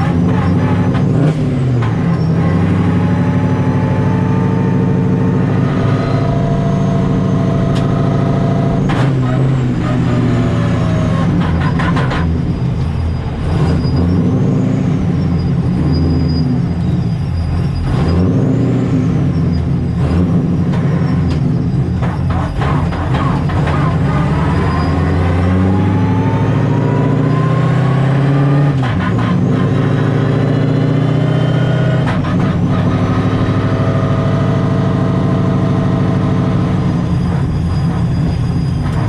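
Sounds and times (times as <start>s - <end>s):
car engine running: 0.0s - 39.0s
supercharger whine: 0.0s - 39.0s.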